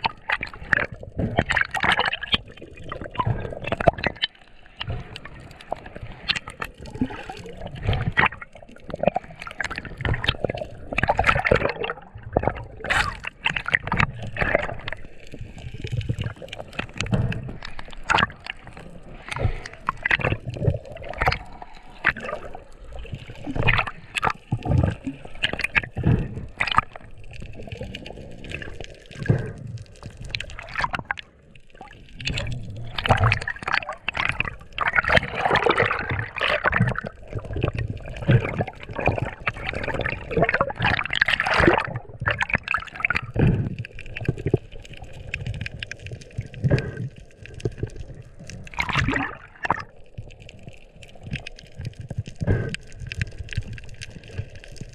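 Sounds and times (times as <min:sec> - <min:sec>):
muffled underwater gurgling: 0:00.0 - 0:54.9
water splashing: 0:00.0 - 0:54.9.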